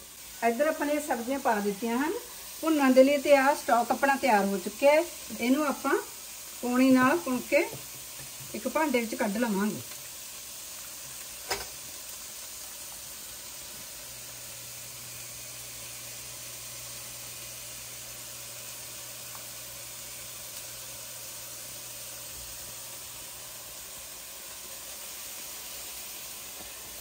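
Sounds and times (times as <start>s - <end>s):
sizzle of liquid poured through strainer: 0.0s - 27.0s.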